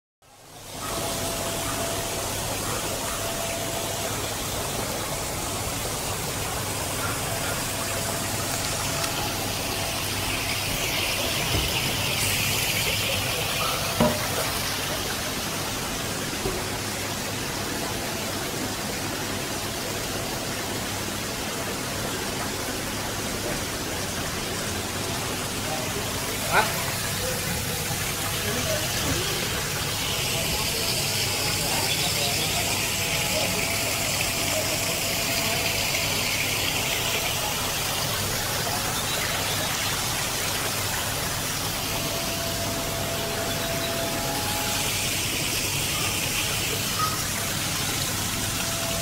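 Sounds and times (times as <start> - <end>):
water churning in a tub: 0.2 - 49.0.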